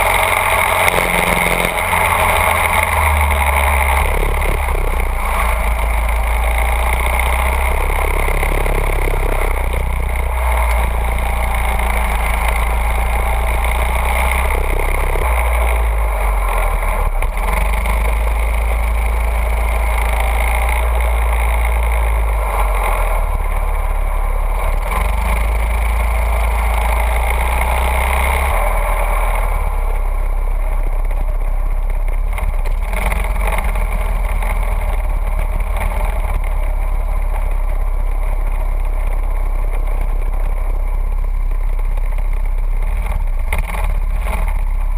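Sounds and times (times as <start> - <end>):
go-kart engine running: 0.0 - 44.9.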